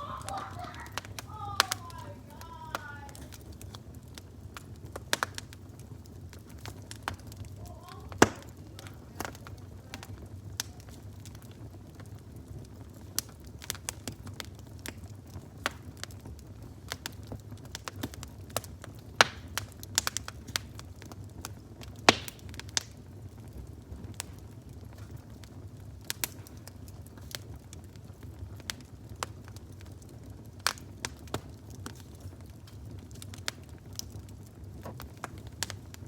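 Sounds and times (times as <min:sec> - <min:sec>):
fire crackling and popping: 0:00.0 - 0:36.0.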